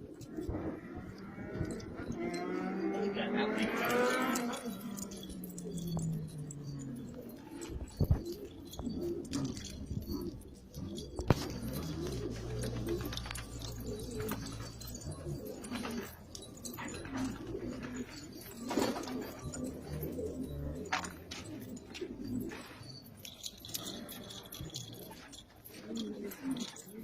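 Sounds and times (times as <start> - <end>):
pigeons cooing: 0.0 - 27.0.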